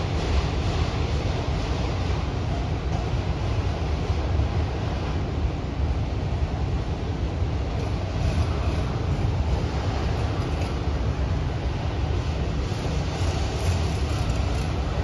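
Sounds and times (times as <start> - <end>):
freight cars rolling on rails: 0.0 - 15.0.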